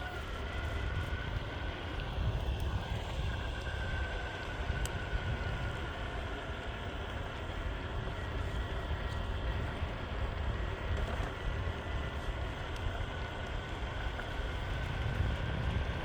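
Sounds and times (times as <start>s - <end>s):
faint high motor whine: 0.0s - 16.0s
skateboard wheels rumbling: 0.0s - 16.0s.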